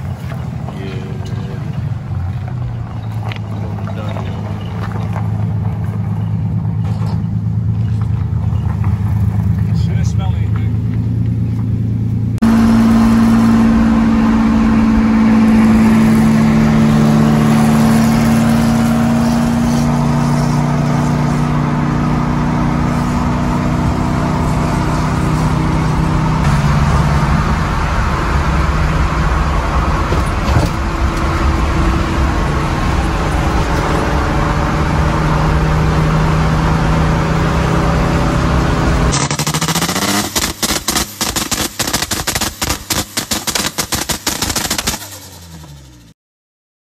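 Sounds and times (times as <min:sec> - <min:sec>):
car engine running loudly: 0:00.0 - 0:46.1.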